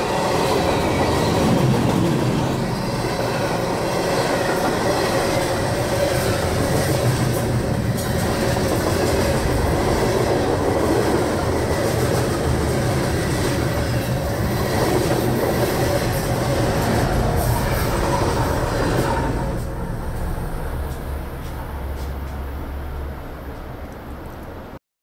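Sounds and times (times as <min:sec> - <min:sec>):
freight train wheels on rails: 0:00.0 - 0:24.8.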